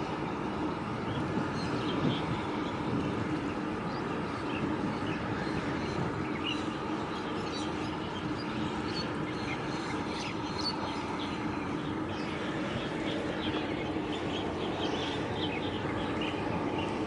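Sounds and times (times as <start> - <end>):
ship engines droning: 0.0 - 17.0
small birds chirping: 1.0 - 17.0.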